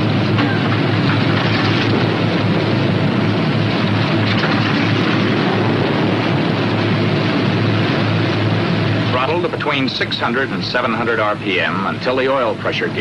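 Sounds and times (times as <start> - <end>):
radial aircraft engine droning: 0.0 - 13.0.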